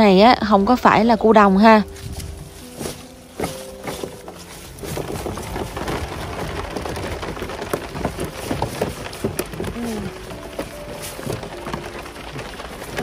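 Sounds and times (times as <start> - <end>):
water dripping and splashing: 1.0 - 13.0.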